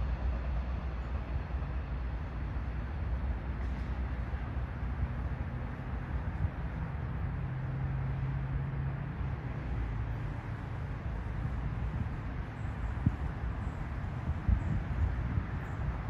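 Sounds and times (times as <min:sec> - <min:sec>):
train cars rumbling past: 0:00.0 - 0:16.0.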